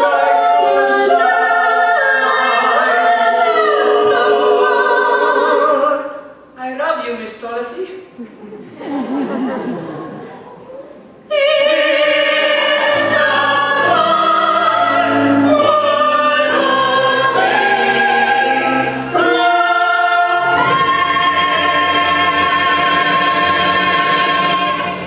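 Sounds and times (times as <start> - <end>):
chorus singing with accompaniment: 0.0 - 6.5, 11.3 - 25.0.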